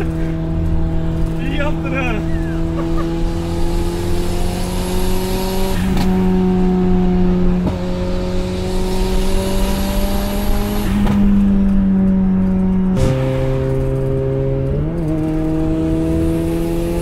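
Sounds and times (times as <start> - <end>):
car engine at highway speed: 0.0 - 17.0.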